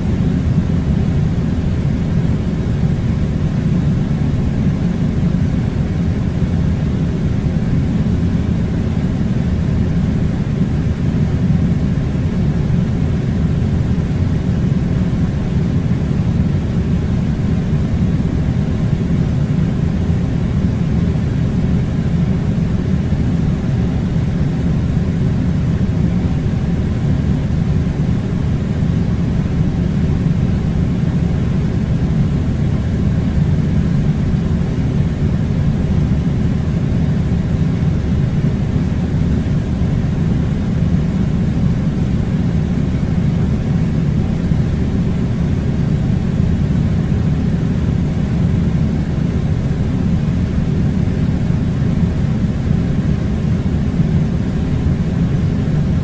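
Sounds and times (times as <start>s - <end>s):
air conditioner blowing: 0.0s - 56.0s.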